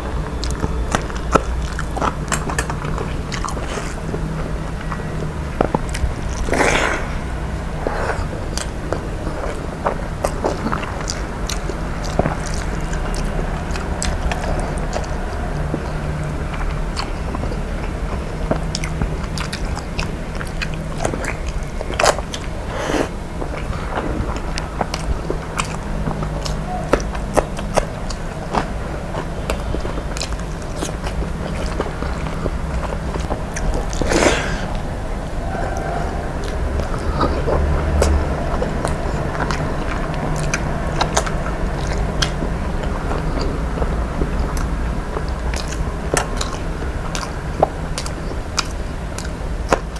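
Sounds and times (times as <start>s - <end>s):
person chewing food: 0.0s - 49.9s
steady low hum: 0.0s - 49.9s.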